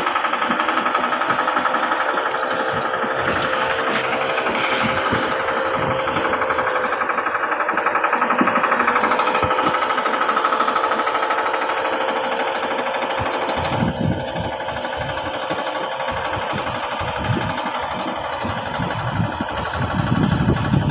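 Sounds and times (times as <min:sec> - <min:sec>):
outboard motor running hard: 0:00.0 - 0:20.9.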